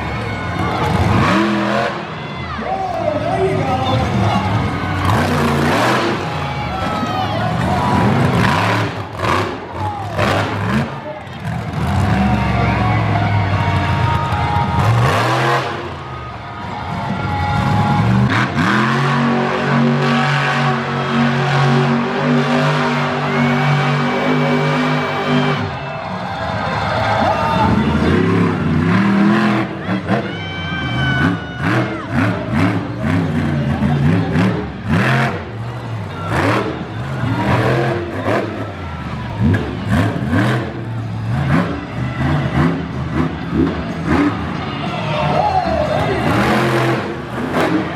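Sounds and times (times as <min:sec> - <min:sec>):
monster truck engine revving: 0:00.0 - 0:47.9.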